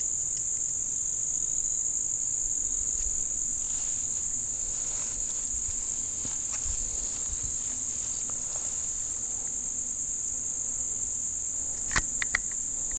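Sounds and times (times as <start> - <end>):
insect chorus drone: 0.0 - 12.9.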